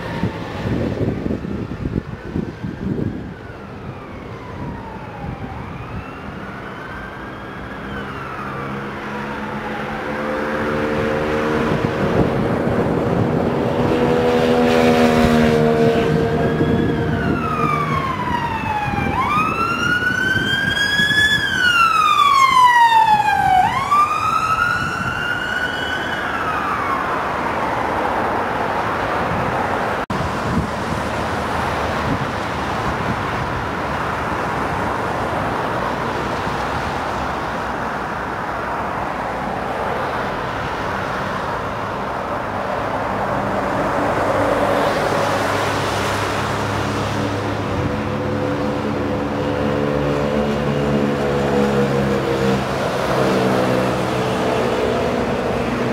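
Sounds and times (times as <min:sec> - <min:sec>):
emergency siren wailing: 0:00.0 - 0:55.9
lorry passing: 0:00.0 - 0:55.9
road traffic roar: 0:00.0 - 0:55.9.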